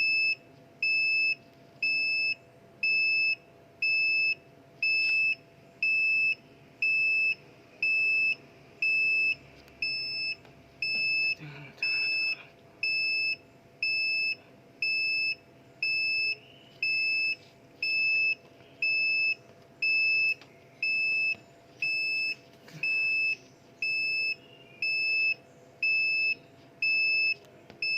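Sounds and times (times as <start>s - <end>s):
backup beeper: 4.9s - 27.9s.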